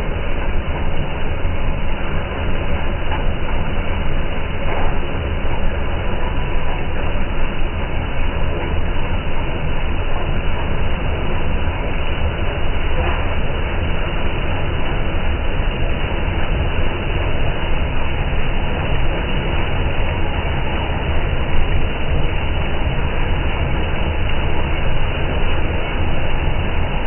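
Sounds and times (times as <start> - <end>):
combine harvester running: 0.0 - 27.0.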